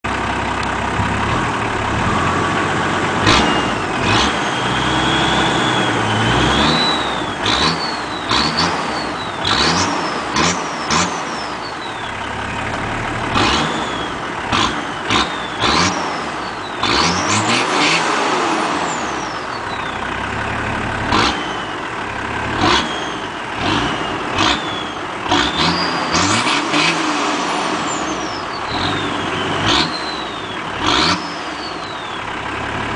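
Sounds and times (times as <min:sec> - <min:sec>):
engine idling and revving: 0:00.0 - 0:32.9.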